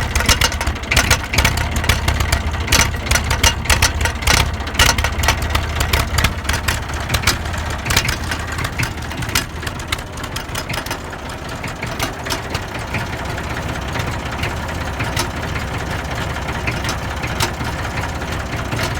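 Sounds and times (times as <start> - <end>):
tractor engine idling: 0.0 - 18.9.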